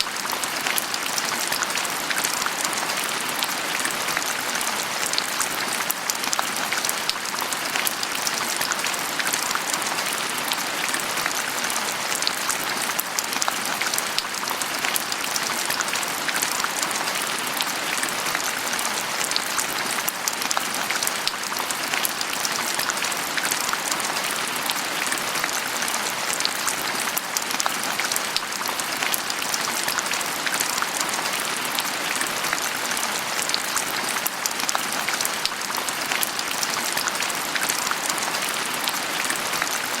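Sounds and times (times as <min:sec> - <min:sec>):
rain pattering: 0:00.0 - 0:40.0.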